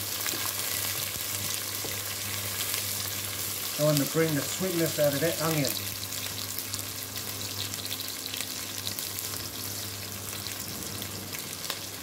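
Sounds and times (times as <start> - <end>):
onion sizzling in hot oil: 0.0 - 12.0
steady low hum: 0.0 - 12.0.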